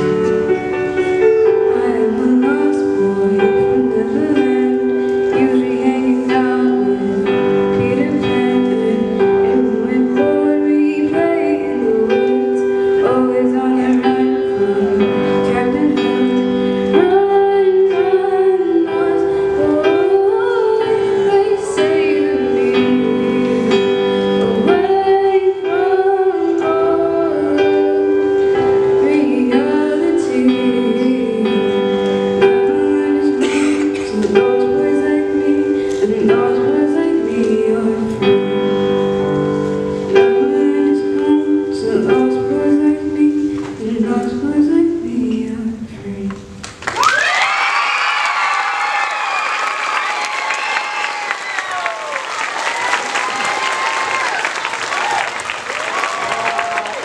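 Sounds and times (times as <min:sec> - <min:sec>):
boy singing into microphone: 0:00.0 - 0:46.6
instrumental backing music: 0:00.0 - 0:46.9.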